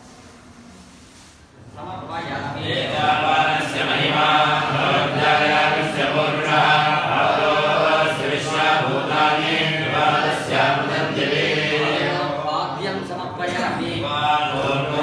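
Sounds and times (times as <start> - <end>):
men chanting together: 1.8 - 15.0.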